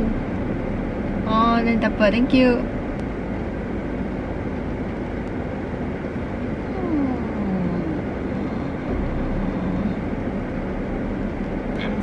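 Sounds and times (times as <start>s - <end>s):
car cabin hum and hiss: 0.0s - 12.0s.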